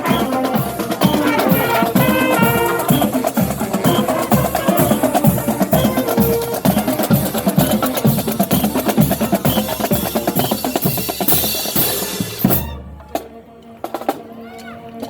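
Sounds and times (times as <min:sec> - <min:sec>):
snare and bass drums playing: 0:00.0 - 0:13.2.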